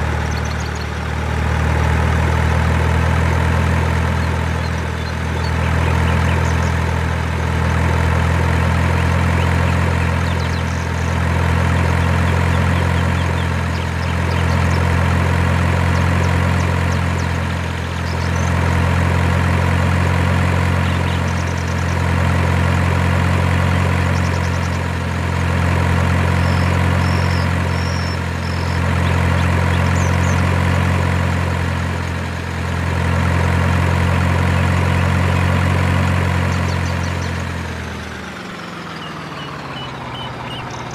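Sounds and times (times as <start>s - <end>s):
heavy truck engine idling: 0.0s - 40.9s.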